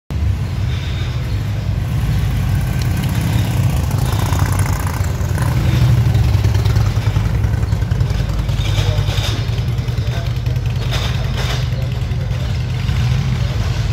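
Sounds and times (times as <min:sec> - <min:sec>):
motorcycle exhausts rumbling: 0:00.1 - 0:13.9.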